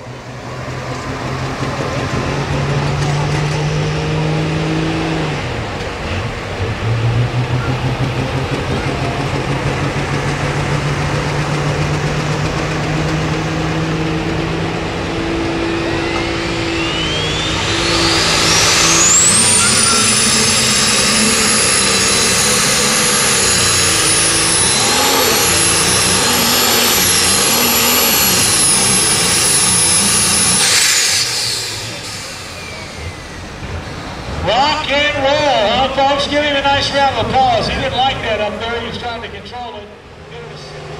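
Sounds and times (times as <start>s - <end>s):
high-pitched turbo whine: 0.0s - 40.9s
tractor engine at full throttle: 0.0s - 40.9s.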